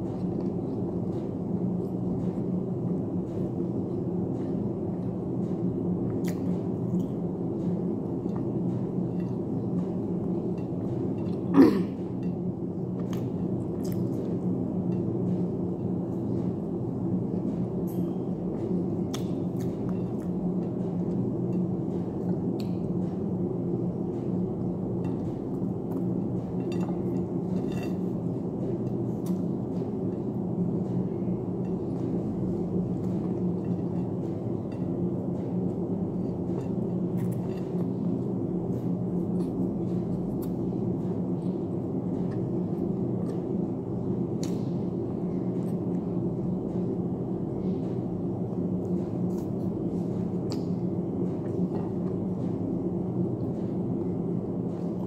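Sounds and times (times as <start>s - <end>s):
clicks and clinks of eating: 0.0s - 16.5s, 17.4s - 23.3s, 24.1s - 43.5s, 50.4s - 54.1s
steady low hum: 0.0s - 55.0s.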